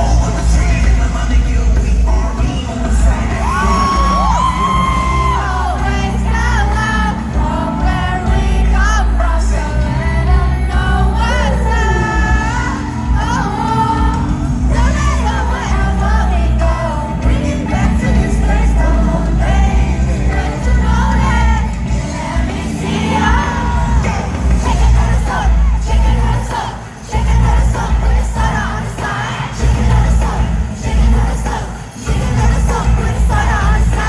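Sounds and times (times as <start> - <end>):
live hip-hop concert music: 0.0 - 34.0.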